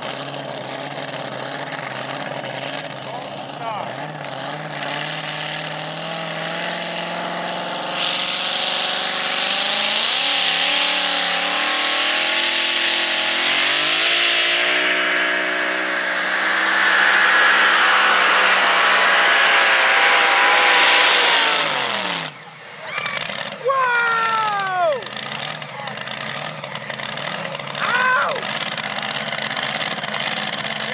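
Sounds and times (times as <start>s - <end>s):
supercharged truck engine revving: 0.0s - 30.9s.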